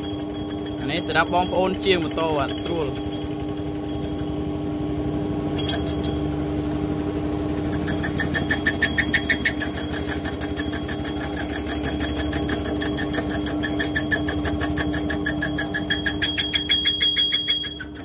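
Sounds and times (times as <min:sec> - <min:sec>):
fast ticking of lathe cut: 0:00.0 - 0:06.1, 0:07.2 - 0:18.0
lathe motor hum: 0:00.0 - 0:18.0.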